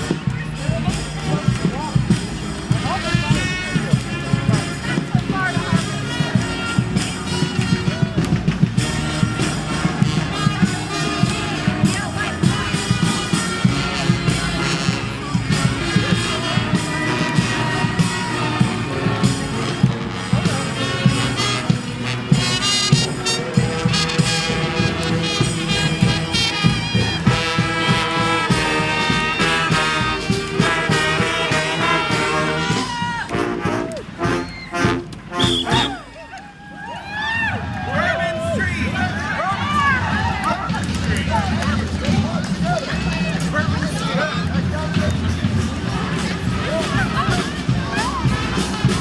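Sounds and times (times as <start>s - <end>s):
steady drumming: 0.0s - 36.2s, 37.2s - 49.0s
trumpets and trombones: 0.0s - 36.2s, 37.6s - 49.0s.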